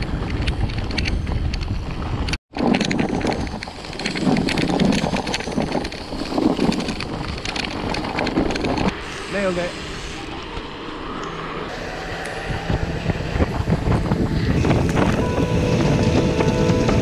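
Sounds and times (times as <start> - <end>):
bike tyre rumble on dirt: 0.0 - 11.0, 11.7 - 17.0
bike rattles and clicks: 0.0 - 11.4, 12.2 - 17.0
wind on microphone: 0.0 - 17.0.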